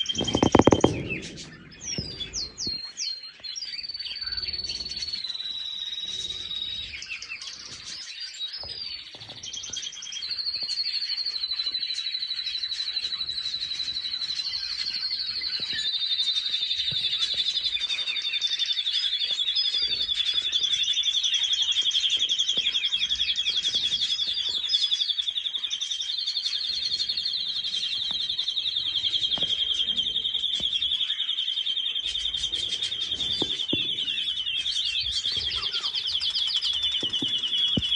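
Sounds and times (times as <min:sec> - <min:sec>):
birds chirping and singing: 0:00.0 - 0:37.9.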